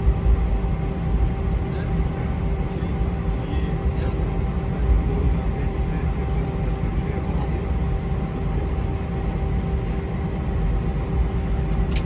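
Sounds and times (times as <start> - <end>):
constant hum: 0.0 - 12.0
jet engine cabin rumble: 0.0 - 12.0.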